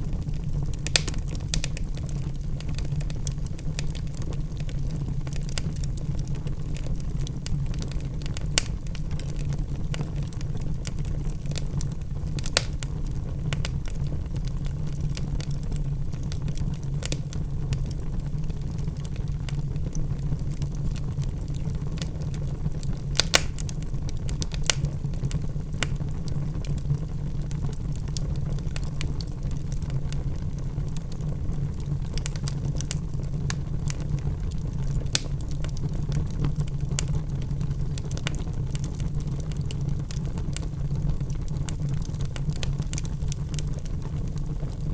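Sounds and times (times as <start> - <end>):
logs burning and crackling: 0.0 - 44.9.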